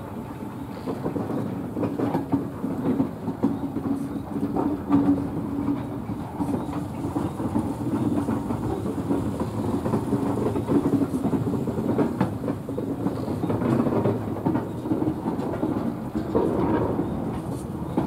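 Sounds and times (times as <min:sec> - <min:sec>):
train wheels rumbling on rail: 0:00.0 - 0:18.0
clicks over rail joints: 0:00.6 - 0:18.0.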